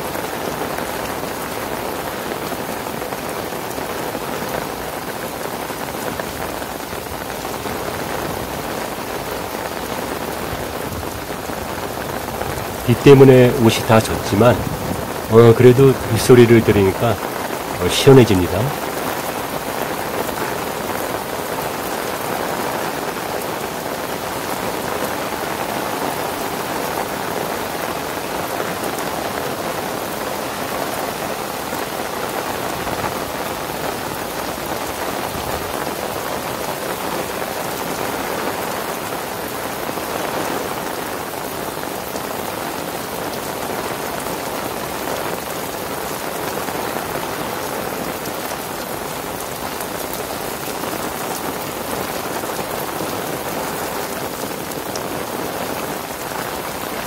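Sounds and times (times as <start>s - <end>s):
heavy rain on decking and water: 0.0s - 57.0s.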